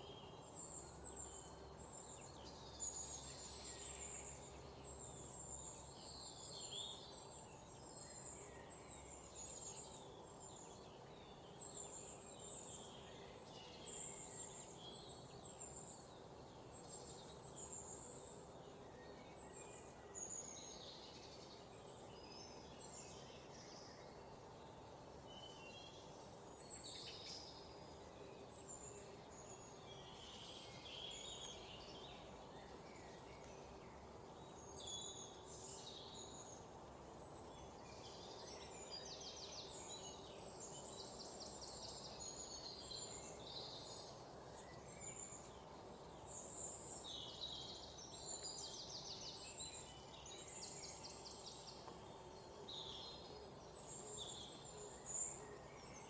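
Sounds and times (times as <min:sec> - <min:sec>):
low background hiss: 0:00.0 - 0:56.0
songbirds chirping: 0:00.0 - 0:56.0.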